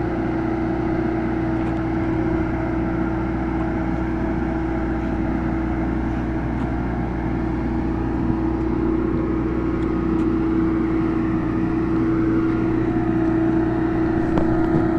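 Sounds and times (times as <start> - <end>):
boat hoist engine droning: 0.0 - 14.9.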